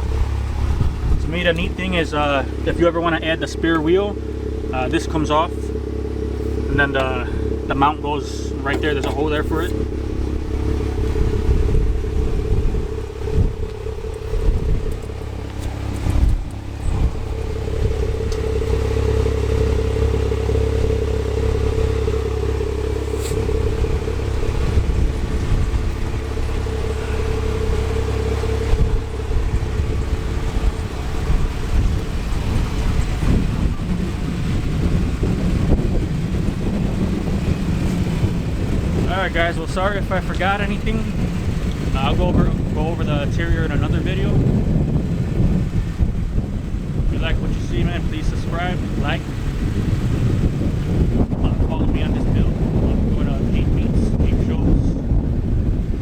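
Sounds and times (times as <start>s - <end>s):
low hum: 0.0s - 56.0s
wind buffeting microphone: 0.0s - 56.0s.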